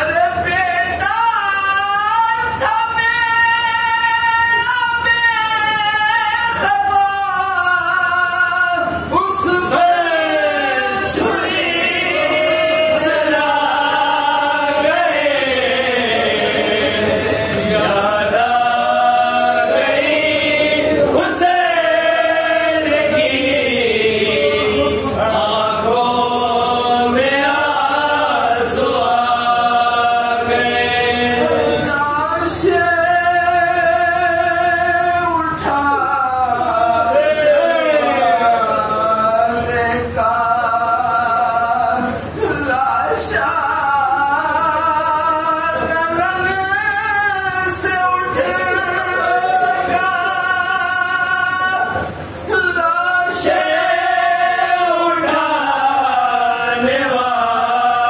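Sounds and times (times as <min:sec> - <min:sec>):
men singing unaccompanied: 0:00.0 - 0:58.0.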